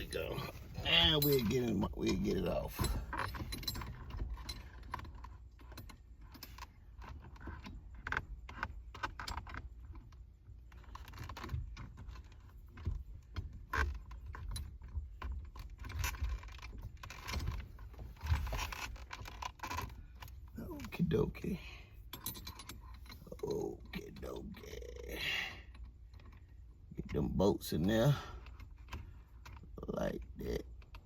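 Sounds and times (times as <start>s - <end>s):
small metallic clinks: 0.0s - 31.0s.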